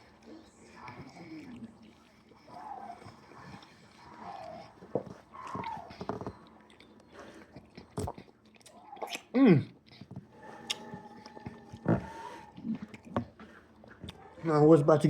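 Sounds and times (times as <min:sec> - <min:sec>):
chewing and mouth smacks: 0:00.0 - 0:14.5.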